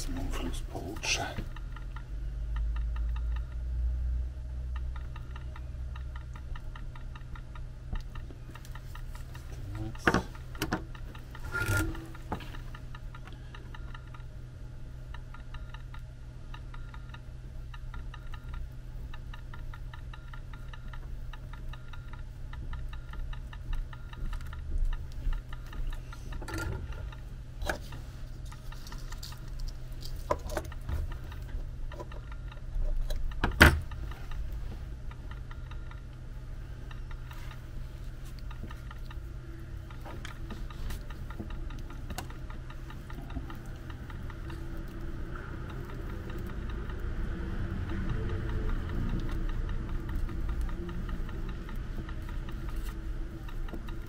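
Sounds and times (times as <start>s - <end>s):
faint regular ticking: 0.0s - 54.0s
low hum: 0.0s - 54.0s
wires and soldering iron clicking: 4.7s - 14.4s, 15.1s - 54.0s.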